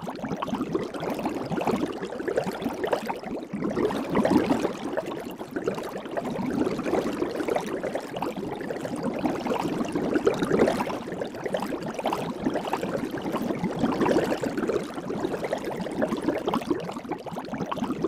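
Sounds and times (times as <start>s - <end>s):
soap bubbles gurgling and popping: 0.0s - 18.0s.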